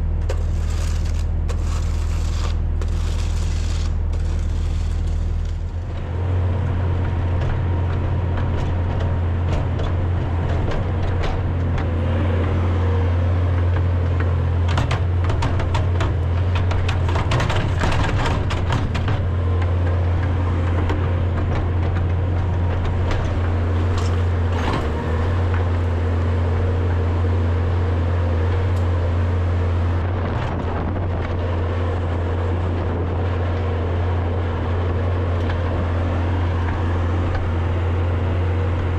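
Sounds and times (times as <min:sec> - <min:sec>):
loader clattering and scraping: 0:00.0 - 0:38.9
tractor engine running: 0:00.0 - 0:38.9.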